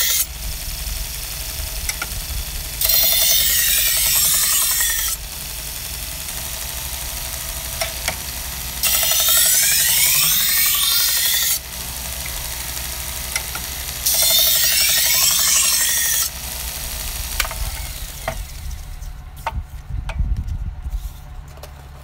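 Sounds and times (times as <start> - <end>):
blade grinding on abrasive belt: 0.0 - 19.2
belt sharpener motor hum: 0.0 - 19.5.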